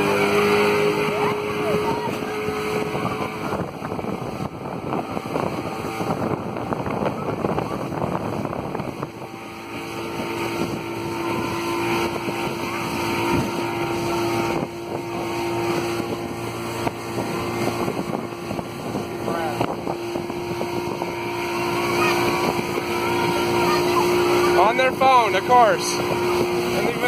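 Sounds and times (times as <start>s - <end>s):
outboard motor running: 0.0s - 27.0s
rushing water: 0.0s - 27.0s.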